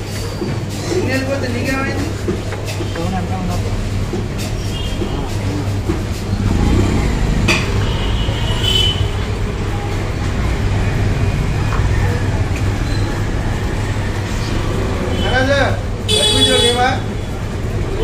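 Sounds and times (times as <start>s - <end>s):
background chatter of voices: 0.0s - 18.0s
low rumble of traffic: 0.0s - 18.0s.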